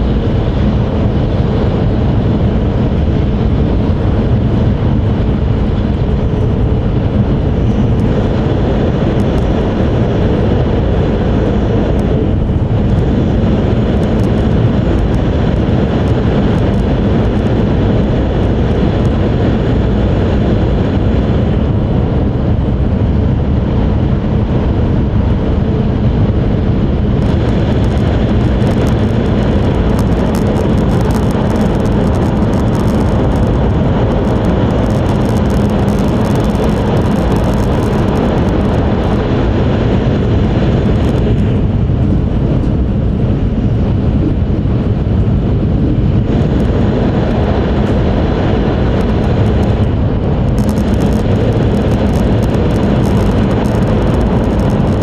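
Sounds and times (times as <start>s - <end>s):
train cabin running rumble: 0.0s - 55.0s.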